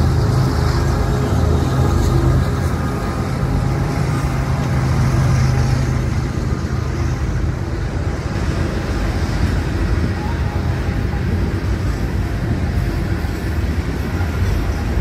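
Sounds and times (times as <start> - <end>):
freight train cars rumbling: 0.0 - 15.0.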